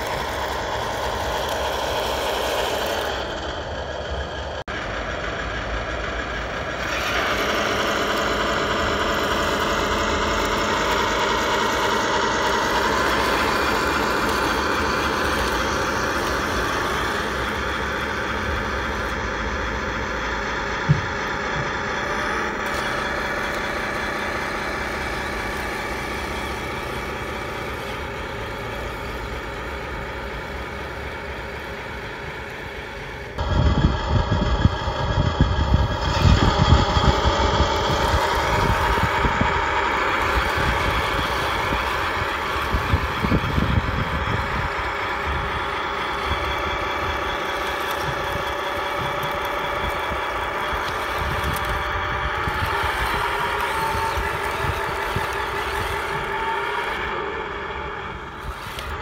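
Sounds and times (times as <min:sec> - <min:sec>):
heavy low rumble and clatter: 0:00.0 - 0:59.0
toy tank motor drone and whine: 0:00.0 - 0:59.0.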